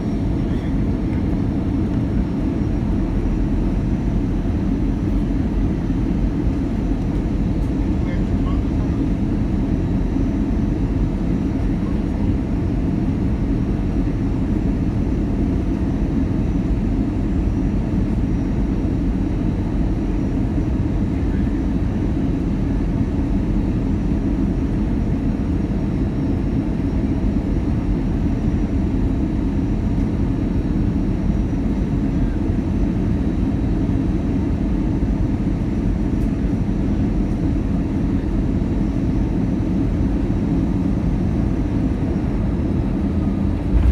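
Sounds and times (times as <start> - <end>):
airliner cabin engine rumble: 0.0 - 43.9
faint high engine whine: 0.0 - 43.9.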